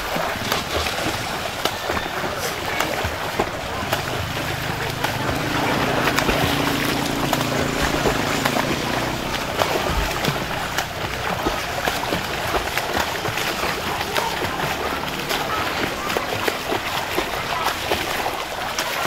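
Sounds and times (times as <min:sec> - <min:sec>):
arms slapping water: 0:00.0 - 0:19.0
churned water wash: 0:00.0 - 0:19.0
swimmers splashing in pool: 0:00.0 - 0:19.0.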